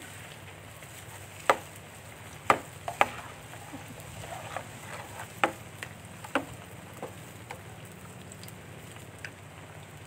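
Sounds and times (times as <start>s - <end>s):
oil sizzling: 0.0s - 10.0s.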